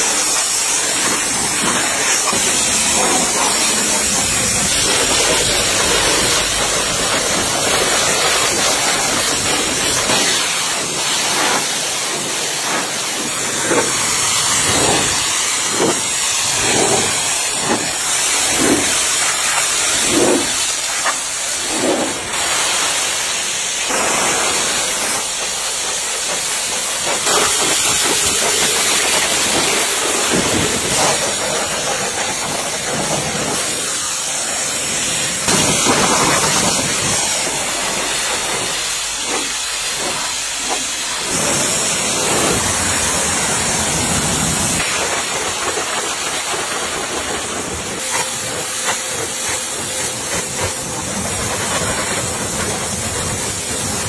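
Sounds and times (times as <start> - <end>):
loud air hiss: 0.0 - 54.0.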